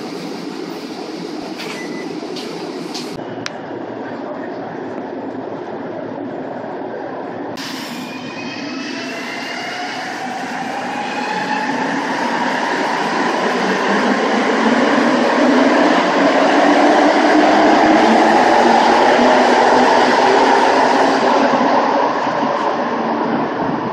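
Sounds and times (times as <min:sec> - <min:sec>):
subway train rumble: 0:00.0 - 0:23.9.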